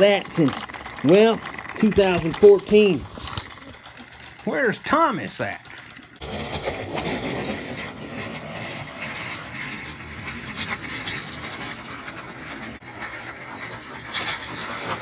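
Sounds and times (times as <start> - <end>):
toy train motor whirring: 0.0 - 15.0
wheels rattling on plastic track: 0.0 - 15.0.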